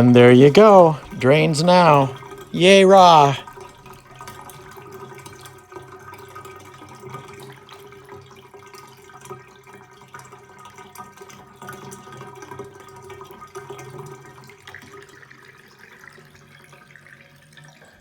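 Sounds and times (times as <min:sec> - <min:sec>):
water running into bathtub drain: 0:00.0 - 0:18.0
water splashes and drips: 0:03.4 - 0:18.0.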